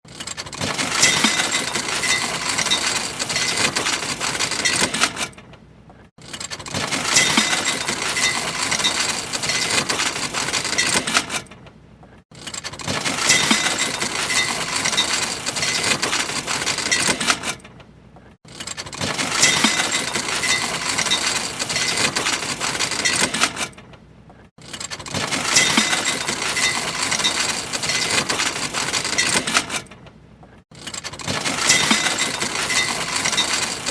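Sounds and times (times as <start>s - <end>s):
anchor chain rattling out: 0.1s - 5.5s, 6.2s - 11.6s, 12.3s - 17.7s, 18.5s - 23.9s, 24.6s - 30.0s, 30.7s - 33.9s.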